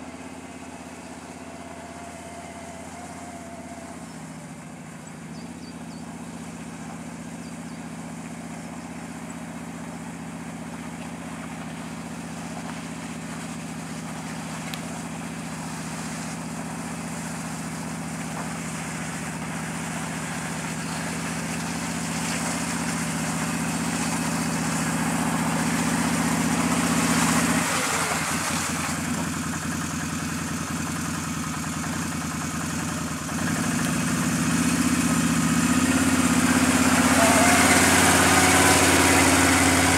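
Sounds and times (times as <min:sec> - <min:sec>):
atv engine running at low revs: 0:00.0 - 0:39.9.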